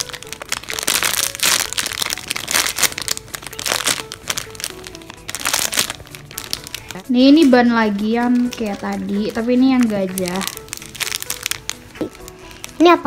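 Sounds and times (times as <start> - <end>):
faint music: 0.0 - 13.0
plastic bag crinkling: 0.0 - 13.0.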